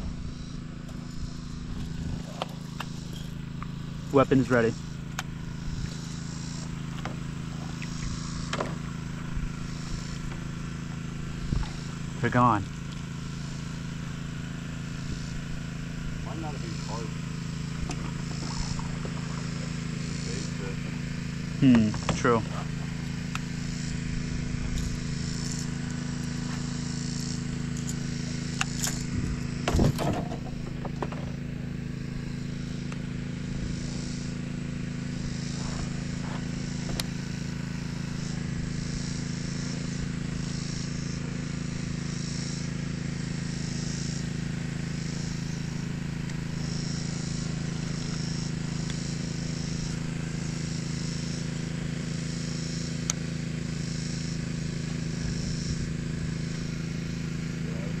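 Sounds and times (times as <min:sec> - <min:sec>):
boat motor humming: 0:00.0 - 0:58.0.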